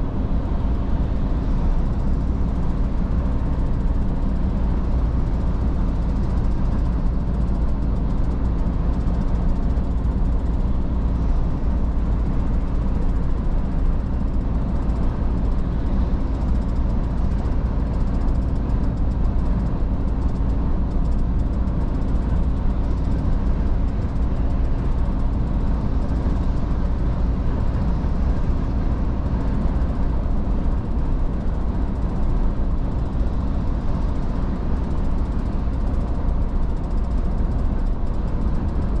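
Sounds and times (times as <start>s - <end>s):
truck engine and road rumble: 0.0s - 39.0s.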